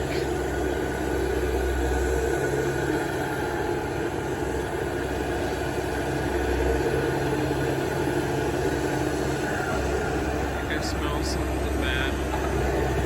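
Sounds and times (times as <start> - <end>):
diesel machinery engine hum: 0.0 - 13.0.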